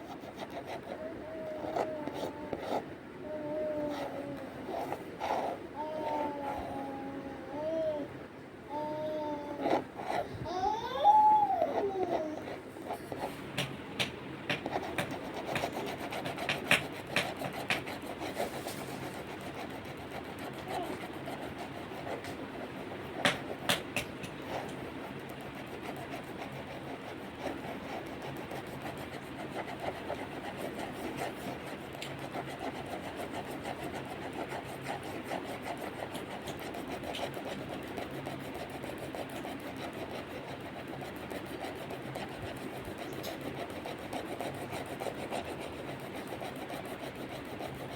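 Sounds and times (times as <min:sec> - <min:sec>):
pen scratching on paper: 0:00.0 - 0:02.8, 0:03.9 - 0:05.6, 0:09.6 - 0:10.2, 0:12.1 - 0:47.9.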